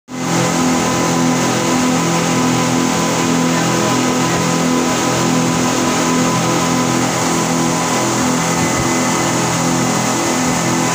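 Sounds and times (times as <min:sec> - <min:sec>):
boat engines droning: 0:00.1 - 0:10.9
rushing water and wind: 0:00.1 - 0:10.9.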